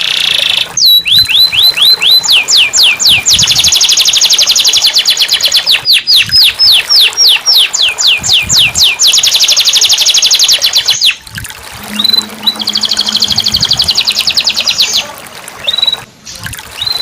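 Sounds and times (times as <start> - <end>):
canary singing: 0.0 - 11.2, 11.8 - 16.1.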